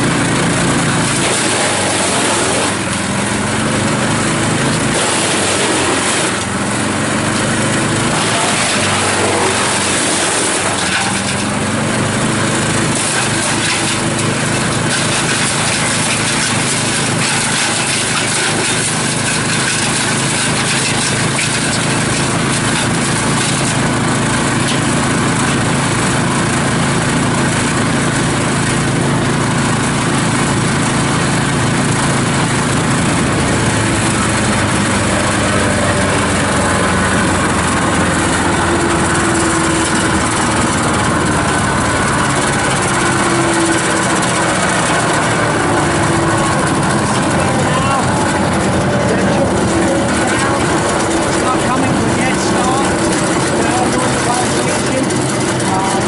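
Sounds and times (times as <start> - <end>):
chipper cutter whooshing: 0.0 - 56.0
wood chipper engine drone: 0.0 - 56.0.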